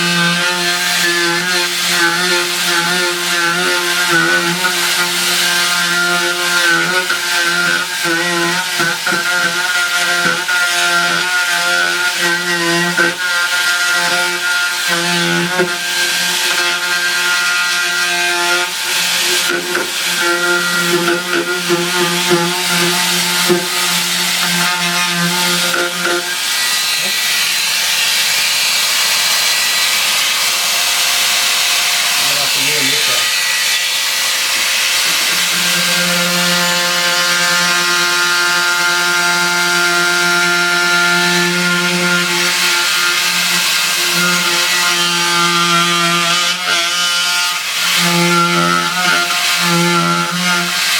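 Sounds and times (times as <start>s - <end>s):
power tool cutting wood: 0.0s - 50.9s.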